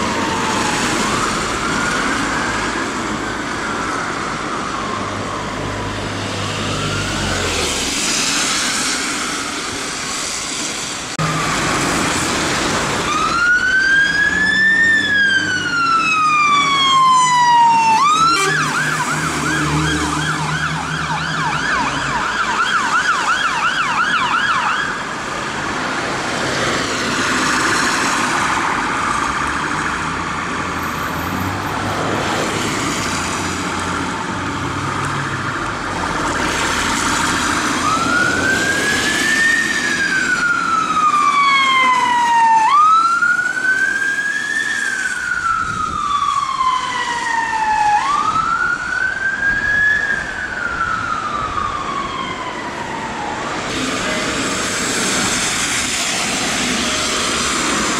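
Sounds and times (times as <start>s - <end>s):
fire engine siren wailing and yelping: 0.0s - 57.9s
traffic noise: 0.0s - 57.9s.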